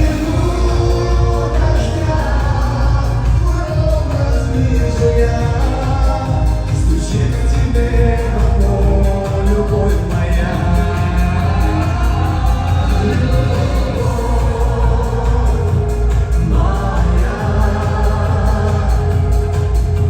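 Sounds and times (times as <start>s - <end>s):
man singing: 0.0s - 20.0s
pop backing track with beat: 0.0s - 20.0s.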